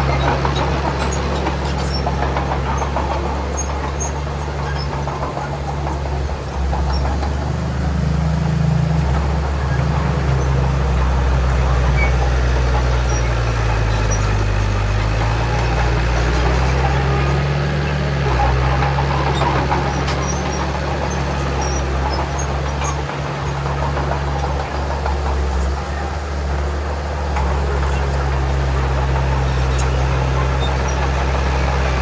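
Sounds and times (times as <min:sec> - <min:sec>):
constant mechanical noise: 0:00.0 - 0:32.0
heavy diesel engine running: 0:00.0 - 0:32.0.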